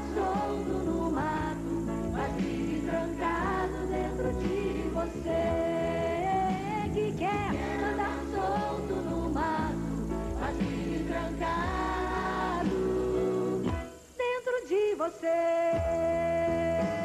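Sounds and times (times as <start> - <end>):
acoustic guitar: 0.0 - 17.0
voices singing together: 0.0 - 17.0.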